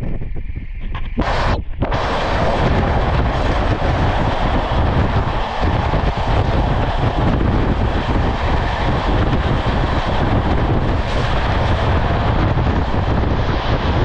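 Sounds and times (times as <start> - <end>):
train low running rumble: 0.0 - 14.0
wind rushing on microphone: 0.0 - 14.0.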